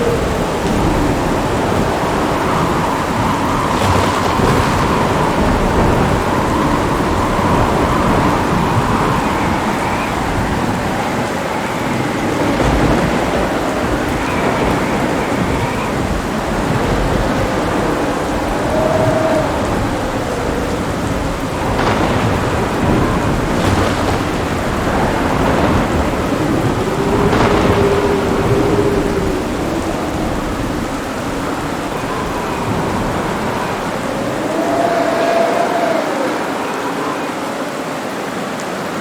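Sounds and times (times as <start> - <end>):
low thunder rumbling: 0.0 - 38.0
heavy rain: 0.0 - 39.0.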